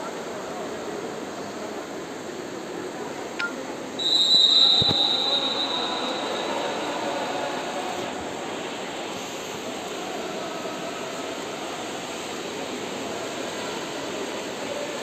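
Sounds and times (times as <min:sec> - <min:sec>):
indoor pool hall noise: 0:00.0 - 0:15.0.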